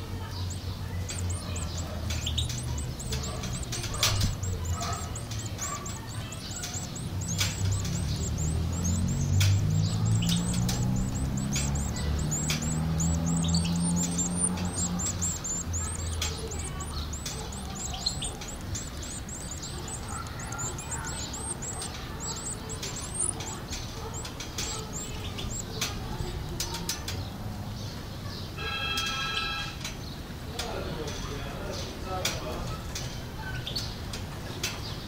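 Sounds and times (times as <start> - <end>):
nestlings chirping high: 0.0 - 35.0.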